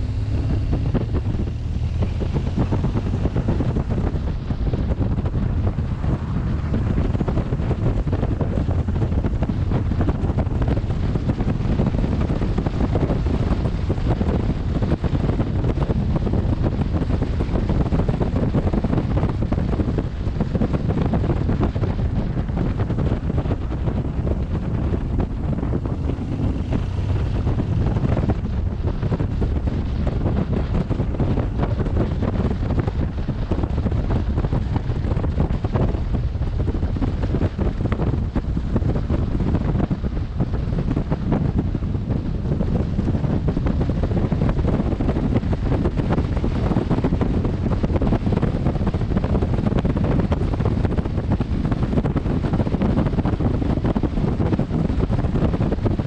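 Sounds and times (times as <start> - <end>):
wind buffeting a microphone: 0.0 - 56.0.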